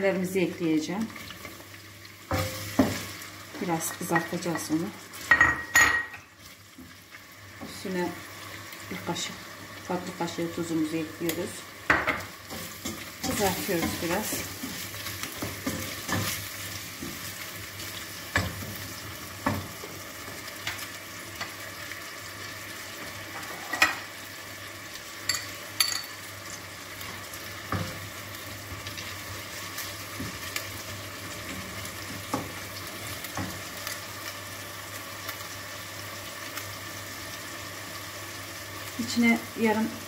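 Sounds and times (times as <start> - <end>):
food sizzling in oil: 0.0 - 40.0.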